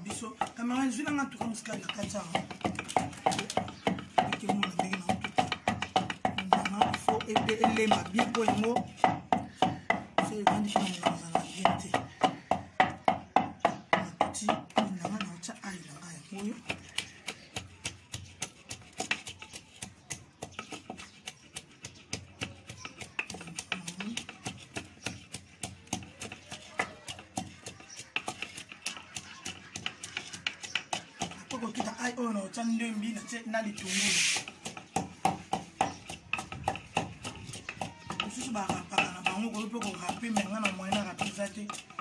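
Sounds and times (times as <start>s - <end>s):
wooden pestle pounding in mortar: 0.0s - 42.0s.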